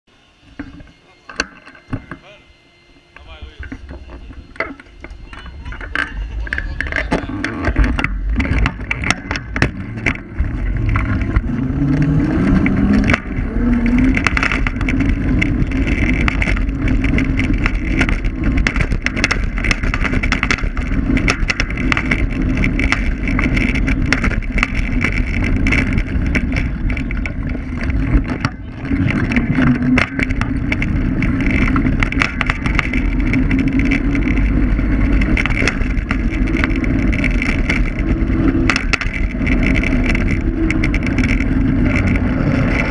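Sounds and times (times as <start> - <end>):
electric motor hum: 0.1 - 42.9
tyre rumble on rough asphalt: 3.3 - 42.9
clicks and knocks from bumps: 3.6 - 42.9.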